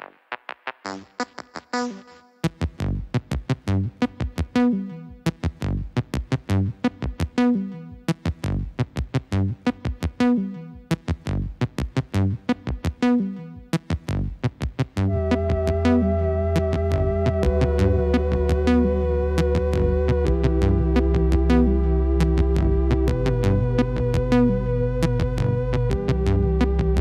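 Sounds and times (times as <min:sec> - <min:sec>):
electronic music with drum beat: 0:00.0 - 0:27.0.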